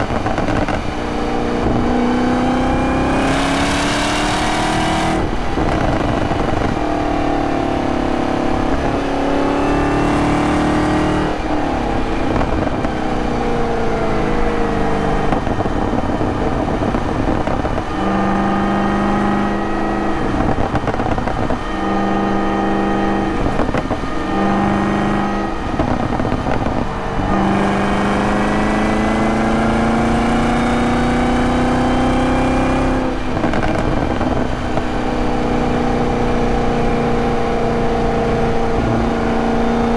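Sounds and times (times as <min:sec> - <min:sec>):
car engine running and revving: 0:00.0 - 0:39.9.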